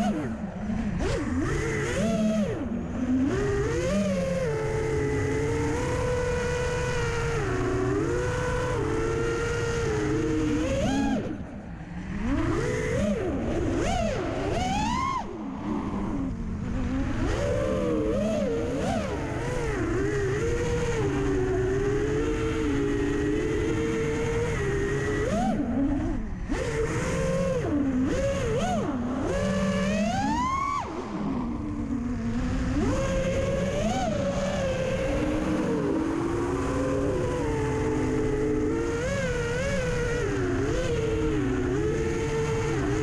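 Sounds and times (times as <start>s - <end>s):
drone motors whining: 0.0s - 43.0s.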